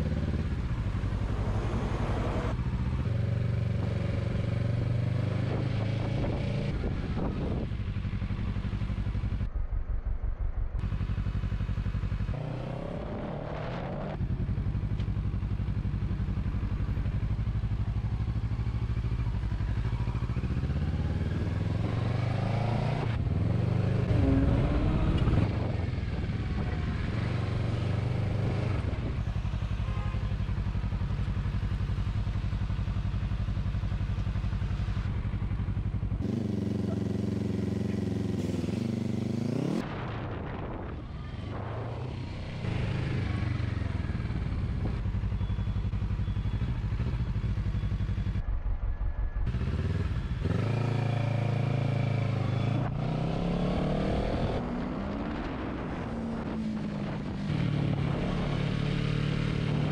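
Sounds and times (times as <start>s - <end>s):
motorcycle engine revving: 0.0s - 9.6s, 10.8s - 59.9s.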